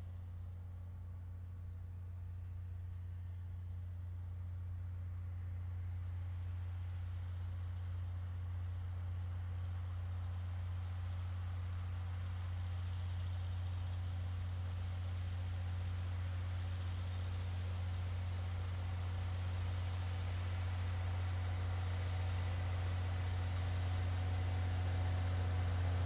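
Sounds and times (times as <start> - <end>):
diesel locomotive engine droning: 0.0 - 26.0.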